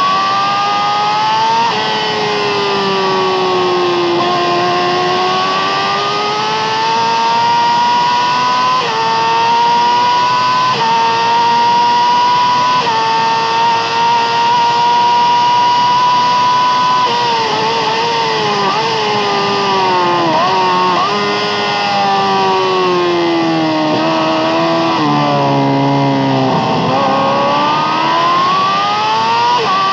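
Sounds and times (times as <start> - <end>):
motorcycle engine revving and shifting: 0.0 - 29.9.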